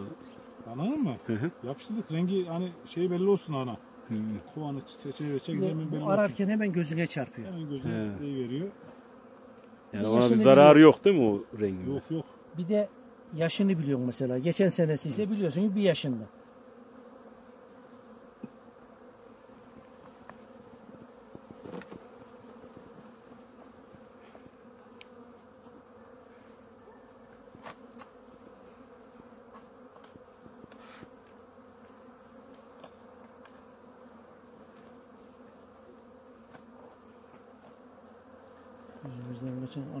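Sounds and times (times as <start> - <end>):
honeybees buzzing: 0.0 - 40.0.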